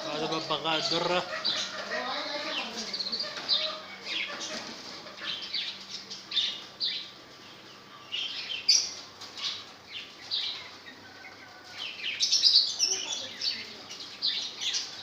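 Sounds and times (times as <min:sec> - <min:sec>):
caged birds chirping: 0:00.0 - 0:15.0.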